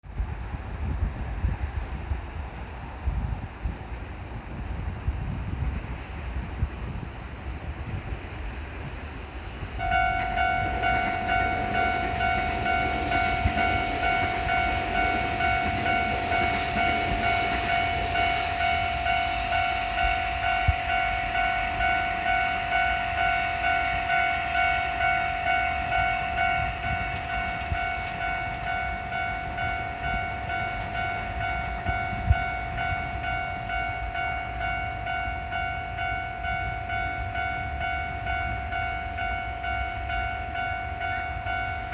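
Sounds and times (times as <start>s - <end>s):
train passing: 0.0s - 41.9s
railroad crossing bell ringing: 5.2s - 41.9s.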